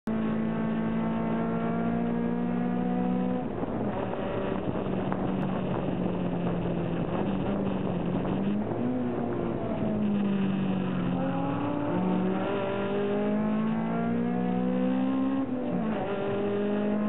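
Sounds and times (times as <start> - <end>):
car engine revving: 0.1 - 17.0
road and tyre noise: 0.1 - 17.0.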